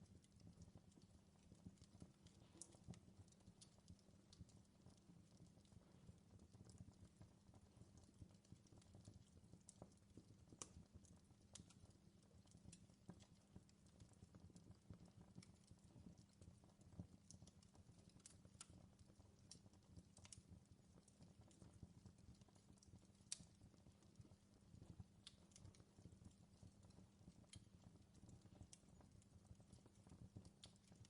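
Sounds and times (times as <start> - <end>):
fireplace crackling: 0.0 - 31.0.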